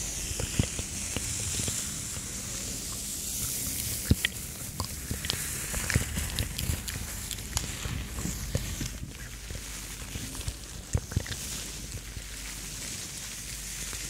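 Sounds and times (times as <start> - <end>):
gloves rubbing fabric rustle: 0.0 - 14.0.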